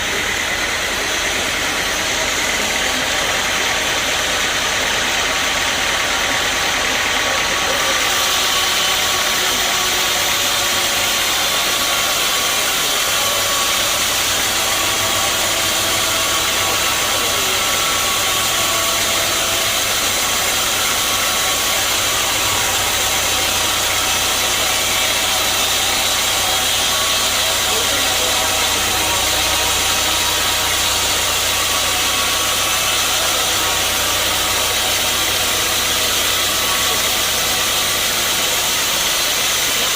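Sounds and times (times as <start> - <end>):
sawmill machinery running: 0.0 - 39.9
steady machine tones: 0.0 - 39.9.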